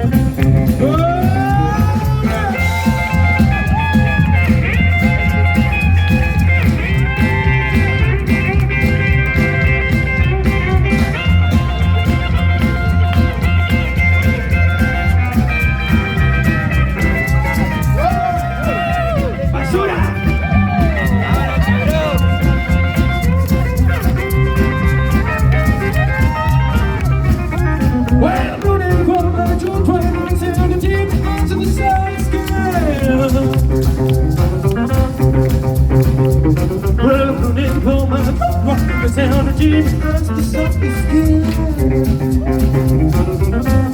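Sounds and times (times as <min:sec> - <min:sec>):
rockabilly band playing: 0:00.0 - 0:43.9.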